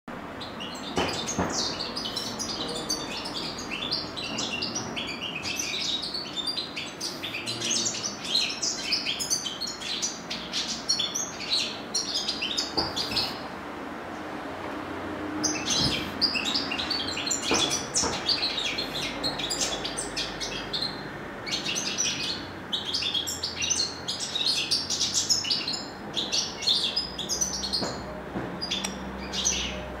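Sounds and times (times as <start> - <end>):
canary singing trills: 0.4 - 13.5, 15.4 - 30.0.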